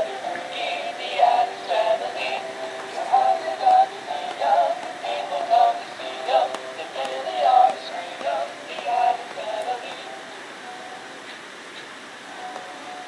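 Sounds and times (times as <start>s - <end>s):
toy singing through tinny speaker: 0.0s - 11.2s, 12.3s - 13.0s.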